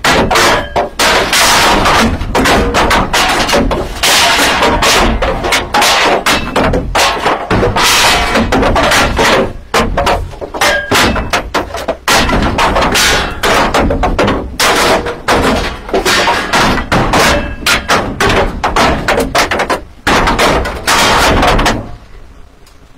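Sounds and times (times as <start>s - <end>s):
loud banging and clattering: 0.0s - 22.1s.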